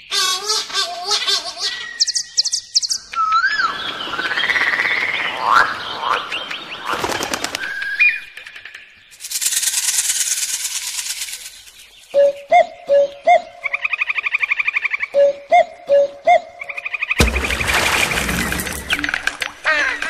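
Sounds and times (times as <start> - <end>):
birds chirping and whistling: 0.0 - 9.0, 11.4 - 20.0.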